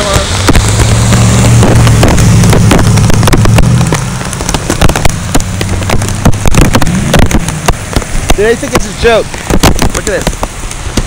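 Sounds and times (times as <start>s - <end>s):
rain striking microphone: 0.0s - 11.0s
truck engine passing on wet road: 0.0s - 11.0s.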